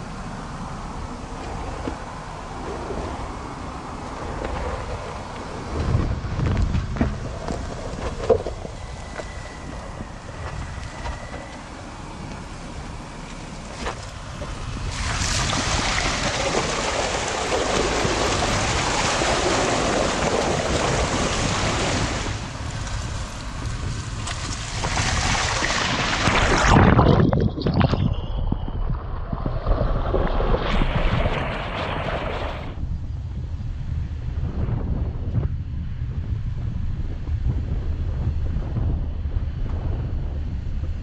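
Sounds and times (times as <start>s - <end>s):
car driving off-road: 0.0s - 41.0s
low rumble and thumps: 0.0s - 41.0s.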